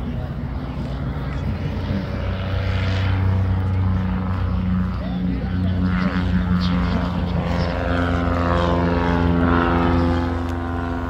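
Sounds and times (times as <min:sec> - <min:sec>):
propeller airplane engine: 0:00.0 - 0:11.0.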